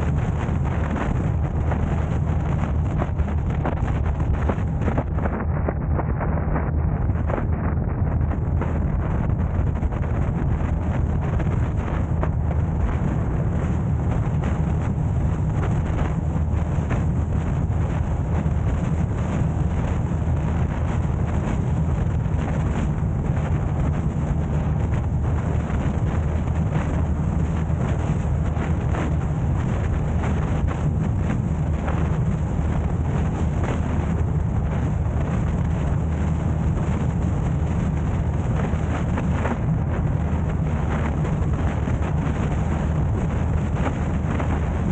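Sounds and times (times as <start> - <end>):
wind and road rumble: 0.0 - 44.9.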